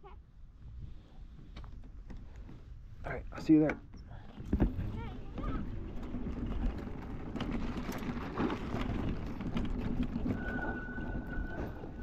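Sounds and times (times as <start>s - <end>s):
tyre and wind rumble: 0.2s - 12.0s.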